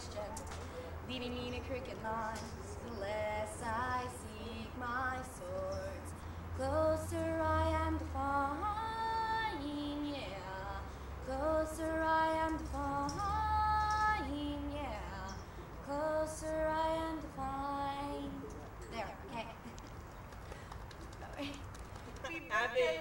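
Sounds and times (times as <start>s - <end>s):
woman singing unaccompanied: 0.0s - 19.6s.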